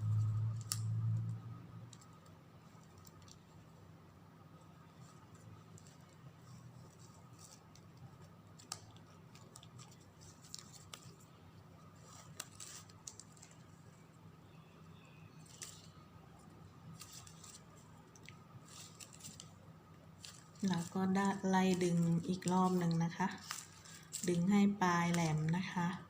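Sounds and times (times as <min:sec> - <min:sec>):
ribbon rustling and clicking: 0:00.0 - 0:03.9, 0:04.6 - 0:14.1, 0:15.3 - 0:26.0
low steady hum: 0:00.0 - 0:26.0.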